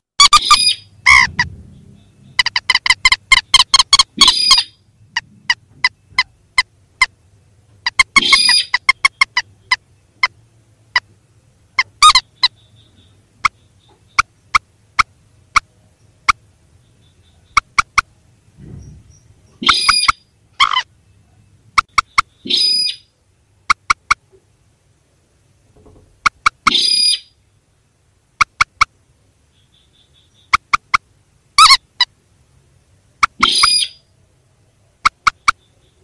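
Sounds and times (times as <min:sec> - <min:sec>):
recorded rail bird calls: 0:00.2 - 0:36.0.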